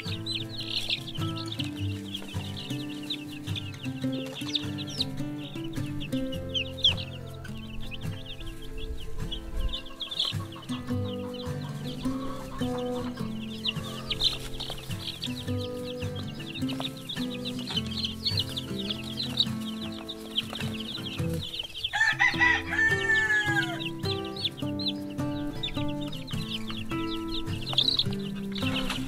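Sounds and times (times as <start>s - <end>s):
background music with held notes: 0.0s - 29.0s
chicks peeping: 0.0s - 29.0s
drawn-out falling bird call: 0.0s - 29.0s.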